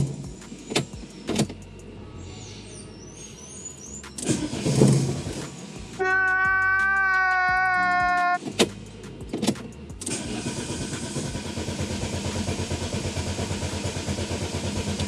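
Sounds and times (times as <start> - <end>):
engine cranking: 0.0 - 1.9, 3.8 - 15.0.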